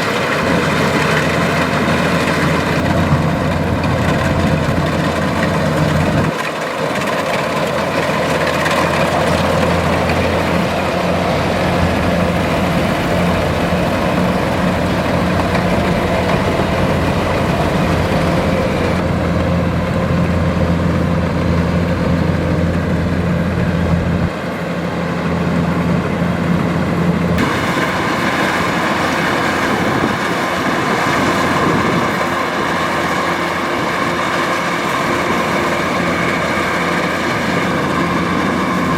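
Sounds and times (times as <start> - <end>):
machinery clattering: 0.0 - 24.4, 26.6 - 38.9
diesel engine drone: 0.0 - 38.9.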